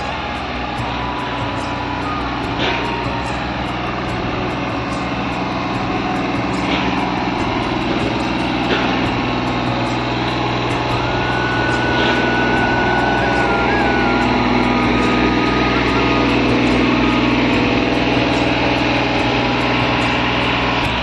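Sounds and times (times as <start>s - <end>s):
farm machinery engines running: 0.0s - 21.0s
thin steady whine: 0.0s - 21.0s.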